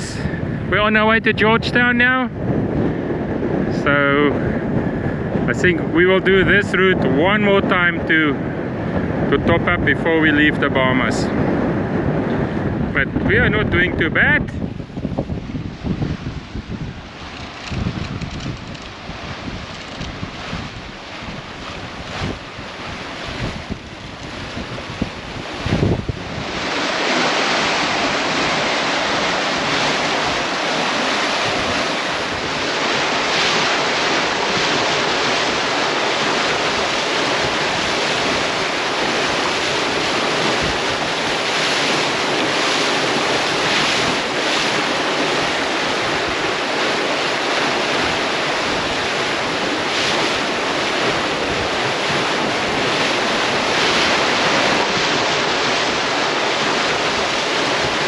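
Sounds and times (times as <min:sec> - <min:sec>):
sea water rushing past hull: 0:00.0 - 0:58.0
wind on microphone: 0:00.0 - 0:58.0.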